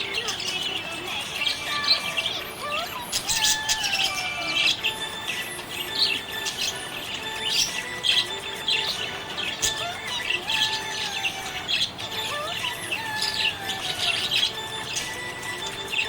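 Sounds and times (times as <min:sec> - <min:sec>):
budgie chirping and warbling: 0:00.0 - 0:16.0.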